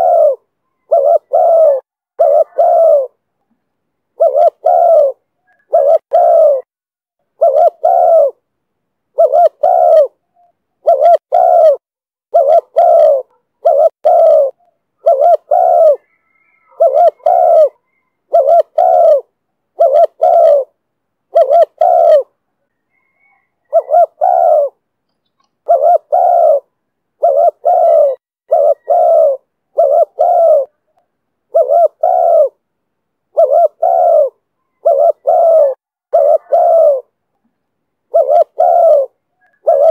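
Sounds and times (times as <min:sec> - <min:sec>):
dove cooing: 0:00.0 - 0:03.2, 0:04.2 - 0:06.7, 0:07.3 - 0:08.4, 0:09.1 - 0:24.8, 0:25.4 - 0:32.6, 0:33.3 - 0:37.2, 0:38.1 - 0:39.9.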